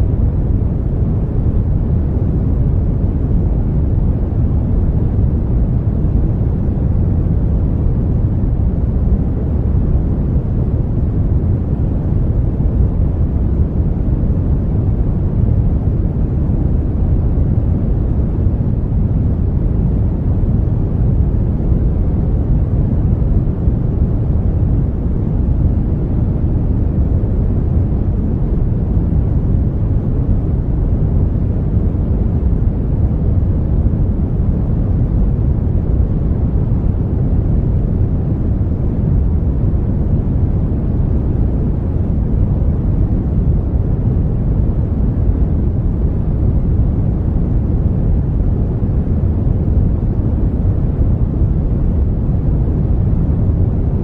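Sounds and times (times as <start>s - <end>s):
brown noise rumble: 0.0s - 54.0s.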